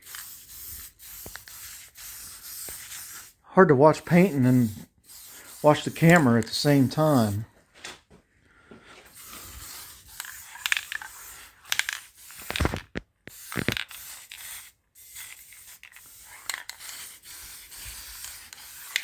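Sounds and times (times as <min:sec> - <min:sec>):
spray paint can hissing: 0:00.0 - 0:03.4, 0:04.0 - 0:07.4, 0:09.1 - 0:19.0.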